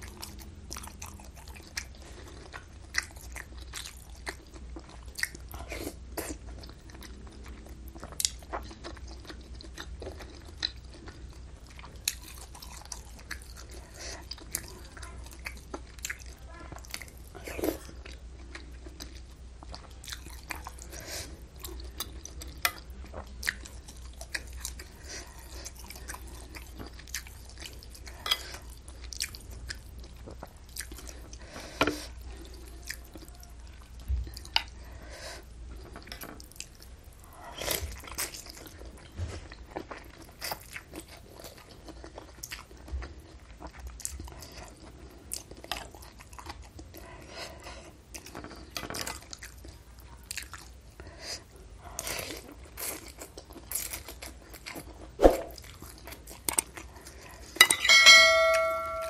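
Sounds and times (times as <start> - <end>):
wet chewing and mouth smacking: 0.0 - 57.8.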